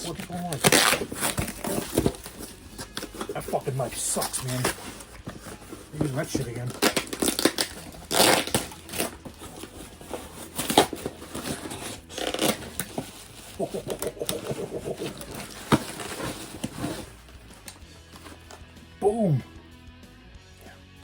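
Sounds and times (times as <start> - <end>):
knife cutting package: 0.0 - 18.6
packaging crinkling: 0.0 - 18.6.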